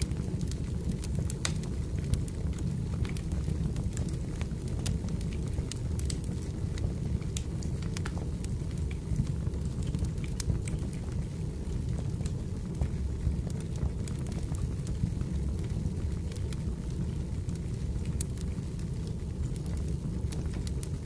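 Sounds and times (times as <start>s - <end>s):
low rumble of burning logs: 0.0s - 21.0s
wood fire crackling: 0.0s - 21.0s.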